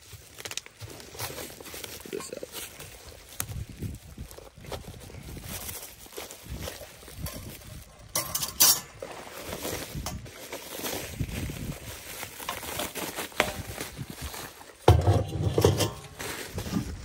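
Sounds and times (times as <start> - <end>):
bubble wrap crinkling: 0.0 - 8.2, 8.8 - 14.9.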